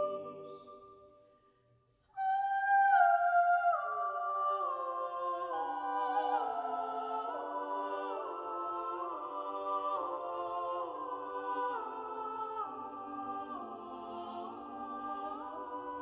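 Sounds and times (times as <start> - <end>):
choir singing in harmony: 0.0 - 1.2, 1.9 - 16.0.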